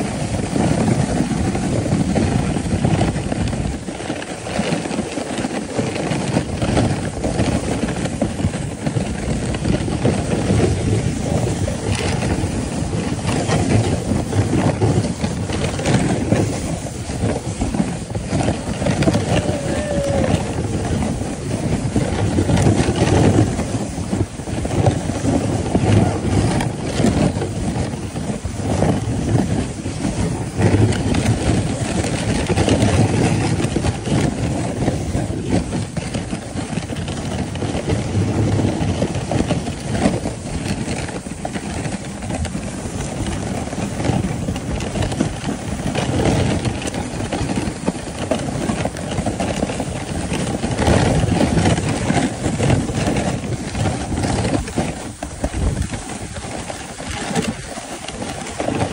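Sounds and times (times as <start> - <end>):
sled scraping on snow: 0.0 - 58.9.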